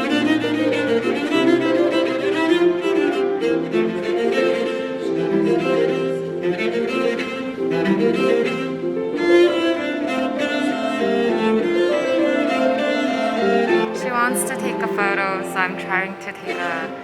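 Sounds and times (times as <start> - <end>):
cello and violin music: 0.0 - 17.0.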